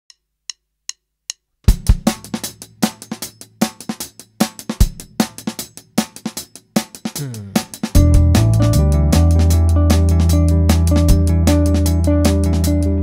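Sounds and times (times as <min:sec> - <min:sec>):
drum kit playing a steady beat: 0:01.7 - 0:13.0.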